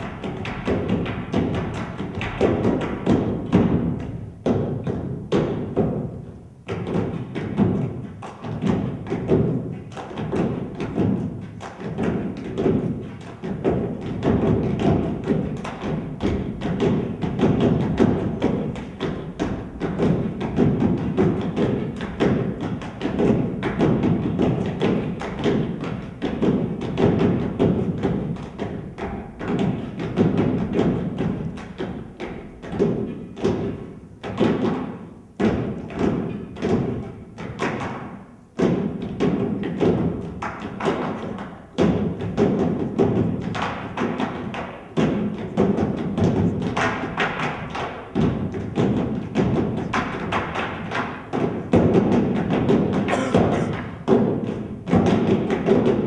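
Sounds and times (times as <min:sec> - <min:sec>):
body percussion stomps and slaps: 0:00.0 - 0:56.0
wooden poles knocking on stage floor: 0:00.0 - 0:56.0.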